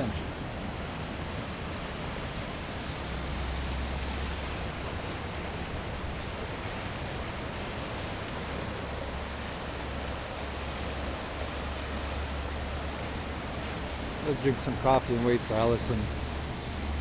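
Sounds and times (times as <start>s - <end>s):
creek rushing in flood: 0.0s - 17.0s.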